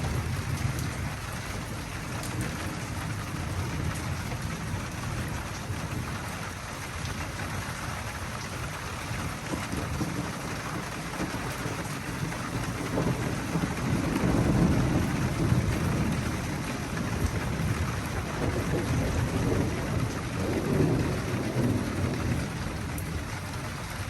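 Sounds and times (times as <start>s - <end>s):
steady rain falling: 0.0s - 24.0s
thunder rumble: 0.0s - 24.0s.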